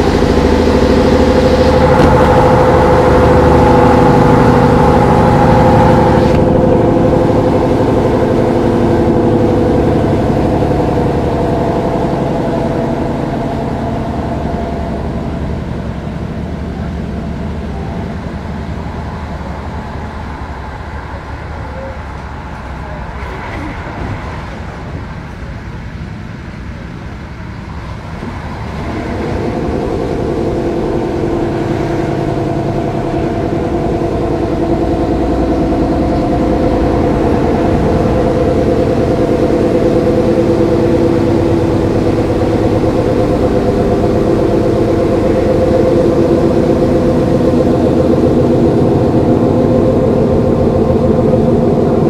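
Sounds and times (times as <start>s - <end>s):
train rumble inside carriage: 0.0s - 52.0s.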